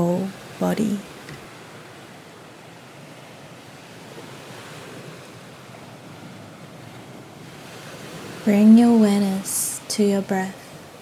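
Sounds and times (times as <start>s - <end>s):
ocean waves washing on shore: 0.0s - 11.0s.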